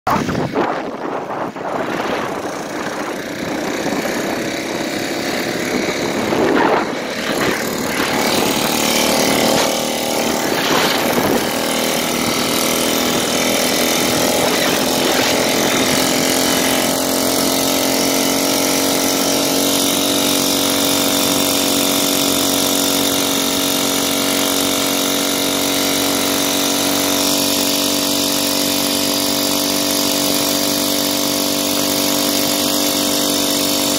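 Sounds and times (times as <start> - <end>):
small gasoline engine running: 0.1 - 33.9.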